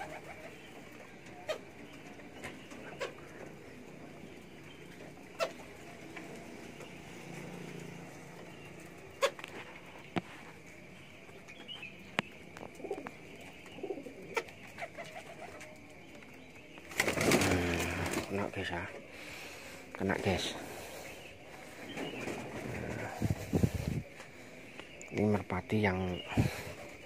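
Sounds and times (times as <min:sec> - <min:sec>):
pigeons cooing: 0:00.0 - 0:25.1.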